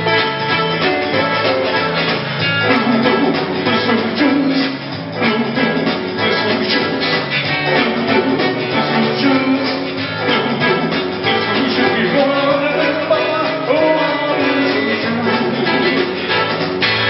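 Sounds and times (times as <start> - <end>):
acoustic guitar: 0.0 - 17.0
man singing into a microphone: 2.6 - 16.4.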